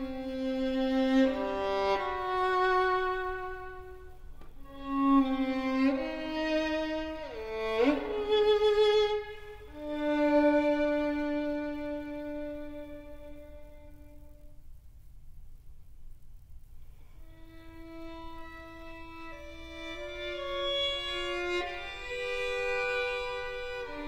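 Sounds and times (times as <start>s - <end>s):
solo violin slow notes: 0.0s - 14.6s, 17.0s - 24.0s.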